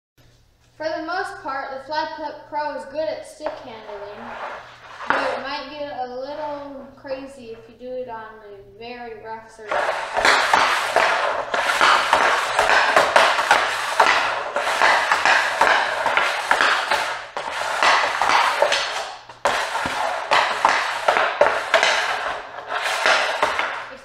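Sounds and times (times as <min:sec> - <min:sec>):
hockey stick and puck scraping floor: 0:02.9 - 0:07.8, 0:09.5 - 0:24.0.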